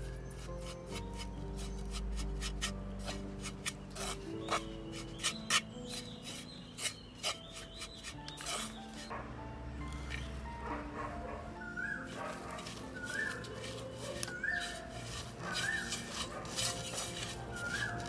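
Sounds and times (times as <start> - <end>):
background music: 0.0 - 18.0
wooden spoon scraping clay pot: 0.6 - 9.1, 12.0 - 18.0.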